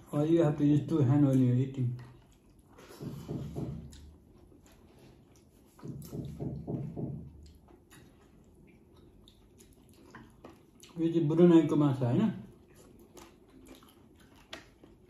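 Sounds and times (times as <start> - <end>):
chewing: 1.2 - 6.4, 7.3 - 11.8, 12.4 - 15.0.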